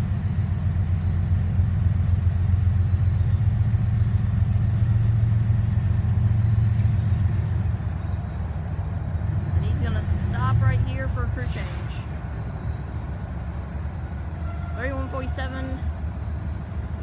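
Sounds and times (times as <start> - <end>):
diesel locomotive rumbling: 0.0 - 17.0.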